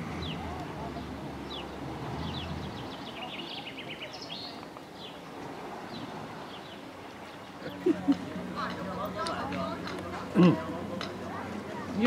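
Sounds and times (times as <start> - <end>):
outdoor background noise: 0.0 - 12.0
songbirds chirping and twittering: 0.0 - 12.0.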